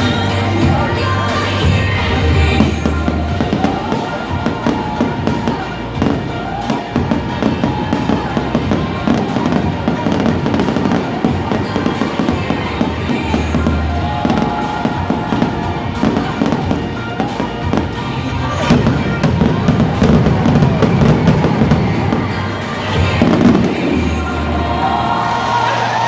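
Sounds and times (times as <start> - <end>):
fireworks crackling and banging: 0.0 - 26.0
music: 0.0 - 26.0.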